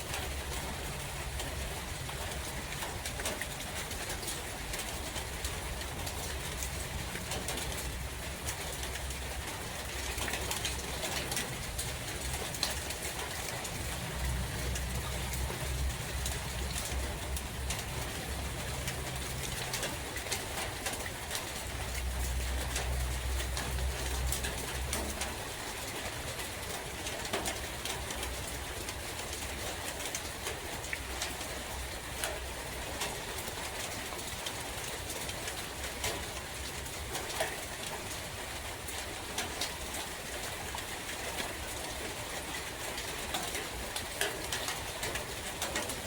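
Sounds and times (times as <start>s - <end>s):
rain pattering in a forest: 0.0s - 46.0s.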